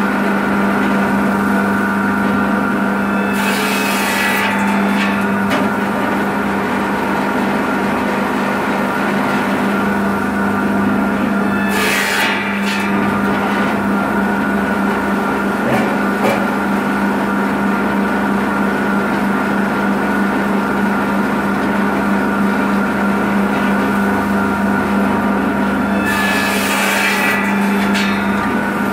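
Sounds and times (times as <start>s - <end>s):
circular saw running: 0.0s - 18.7s, 22.4s - 28.9s.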